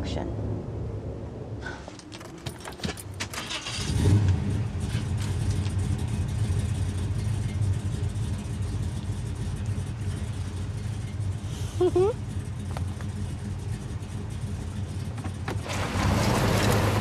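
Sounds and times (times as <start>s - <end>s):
car engine starting and running: 2.1s - 17.0s.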